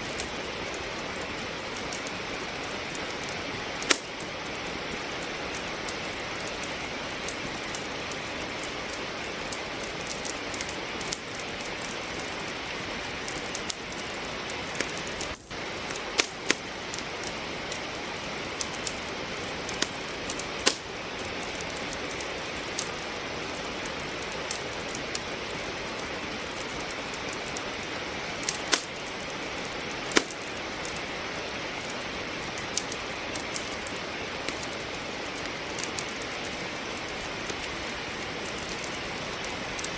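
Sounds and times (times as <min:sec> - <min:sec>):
steady rain hiss: 0:00.0 - 0:39.9
wood fire crackling: 0:00.0 - 0:39.9.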